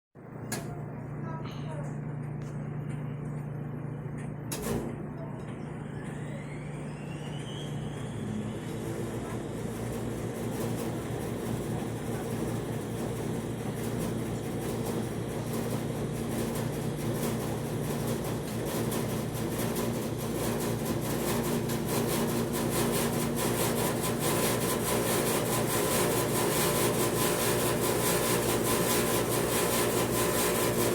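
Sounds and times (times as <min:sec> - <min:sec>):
washer motor whine: 0:00.2 - 0:30.9.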